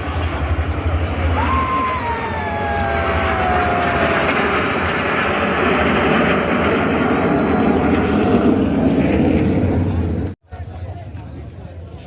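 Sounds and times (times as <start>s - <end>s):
jet aircraft flying past: 0.0s - 10.4s.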